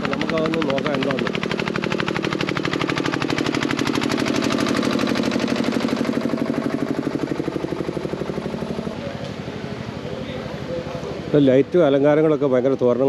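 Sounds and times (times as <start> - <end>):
engine running with pulsing beat: 0.0 - 13.0.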